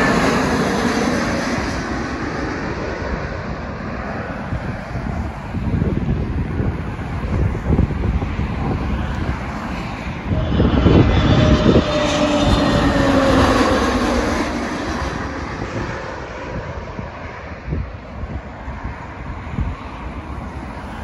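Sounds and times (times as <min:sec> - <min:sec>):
jet airliner passing overhead: 0:00.0 - 0:21.0
wind buffeting microphone: 0:00.0 - 0:21.0.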